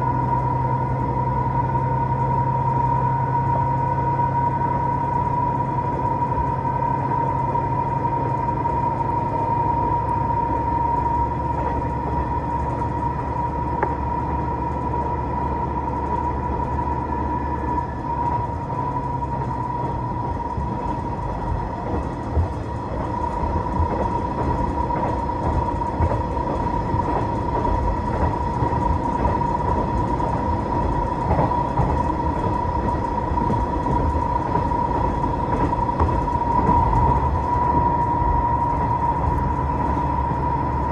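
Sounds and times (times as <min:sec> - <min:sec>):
high steady whine: 0:00.0 - 0:40.9
train low rumble: 0:00.0 - 0:40.9
wheel clicks over rail joints: 0:04.6 - 0:40.9.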